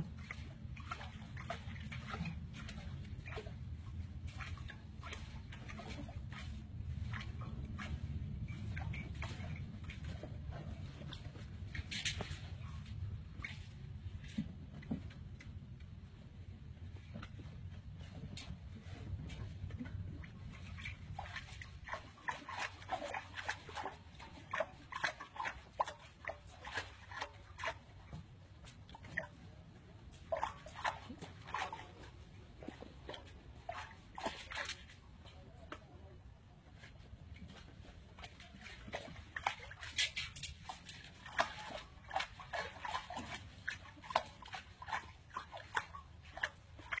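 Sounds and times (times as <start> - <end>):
pawing at water: 0.0 - 47.0.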